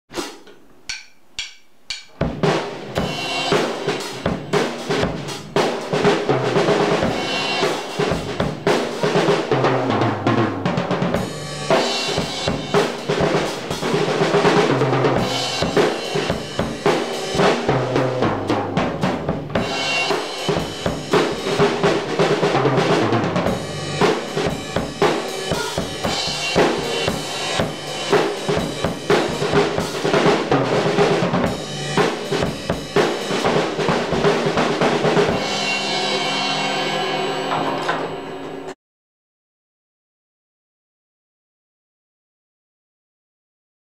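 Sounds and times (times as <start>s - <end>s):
drum kit groove: 0.1s - 38.8s.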